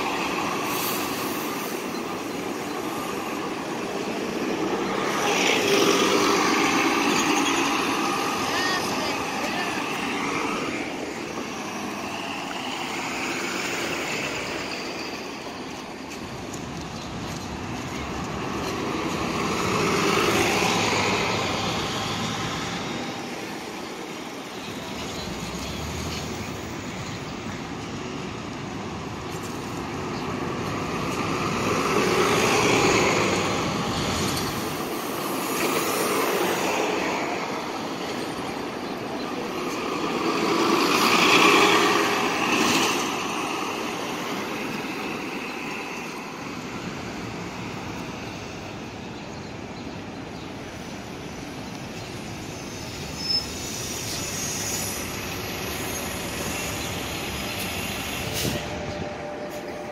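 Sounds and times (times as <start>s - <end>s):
buses driving past: 0.0s - 59.9s.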